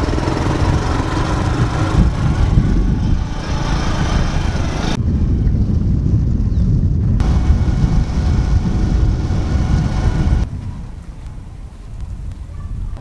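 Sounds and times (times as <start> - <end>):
motorcycle engine running: 0.0 - 10.5
wind buffeting microphone: 0.0 - 13.0.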